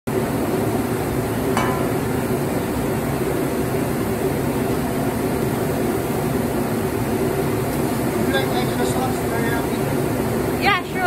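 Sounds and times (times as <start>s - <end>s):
griddle hissing and rumbling: 0.1s - 11.0s.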